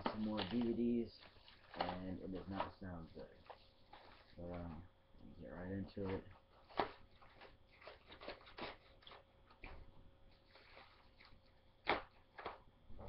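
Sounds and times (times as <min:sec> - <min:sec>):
package being handled and opened: 0:00.0 - 0:04.7, 0:05.9 - 0:12.6.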